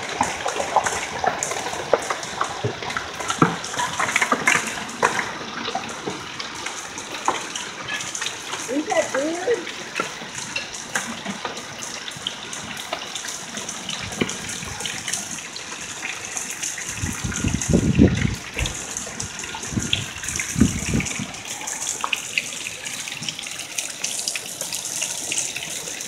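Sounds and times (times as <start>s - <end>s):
heavy rain hissing: 0.0s - 10.9s, 13.4s - 26.0s
hailstones ticking: 0.0s - 26.0s.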